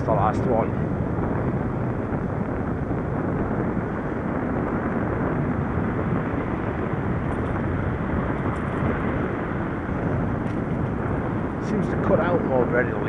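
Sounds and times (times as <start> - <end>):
bicycle tyre and road noise: 0.0 - 13.0
wind on microphone: 0.0 - 13.0.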